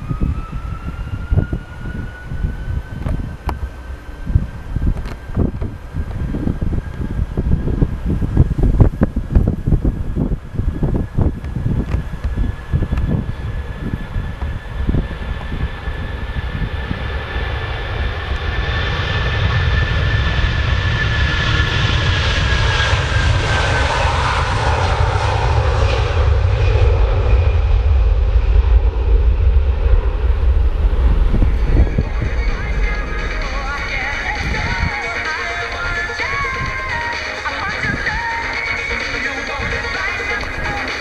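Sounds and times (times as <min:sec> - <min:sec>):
airliner engines passing: 0:00.0 - 0:41.0
high engine whine: 0:00.0 - 0:41.0.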